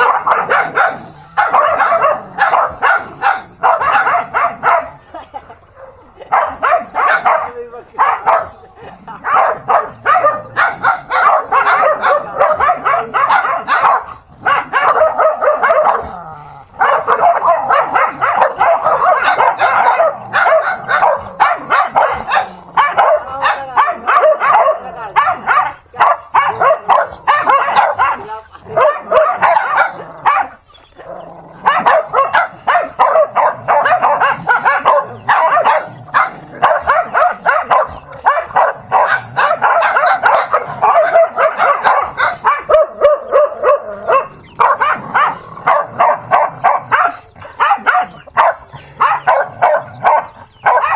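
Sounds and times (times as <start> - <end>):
dogs barking and yapping: 0.0 - 50.9.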